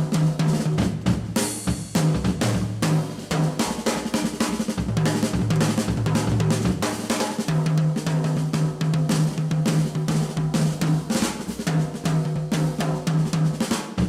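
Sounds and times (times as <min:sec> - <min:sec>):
jazz drum kit playing: 0:00.0 - 0:14.0.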